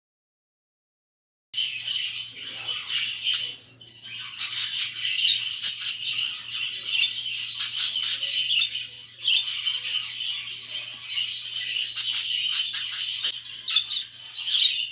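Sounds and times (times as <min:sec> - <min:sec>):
budgerigars chattering and chirping: 0:01.6 - 0:14.9.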